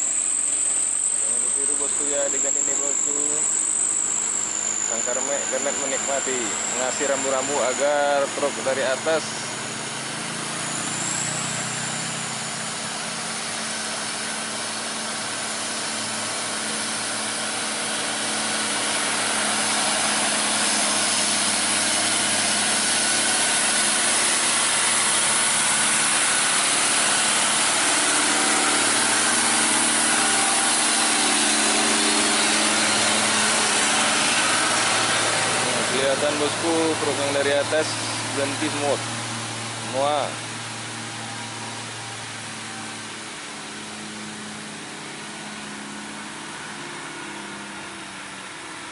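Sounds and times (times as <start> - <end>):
diesel truck engine passing by: 0.0 - 48.9.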